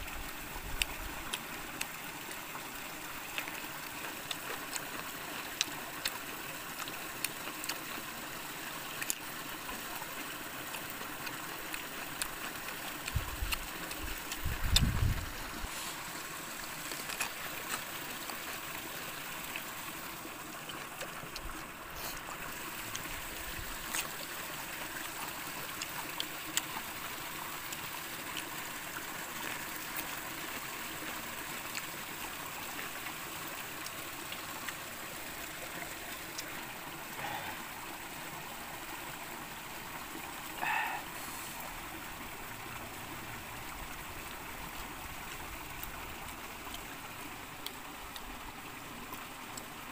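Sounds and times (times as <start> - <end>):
stream running over rocks: 0.0 - 49.9.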